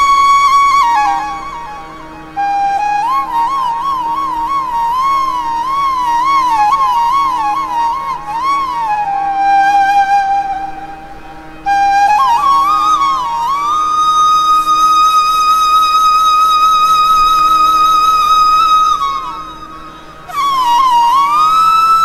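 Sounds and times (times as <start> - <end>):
flute melody: 0.0 - 22.0
soft steady drone: 0.0 - 22.0.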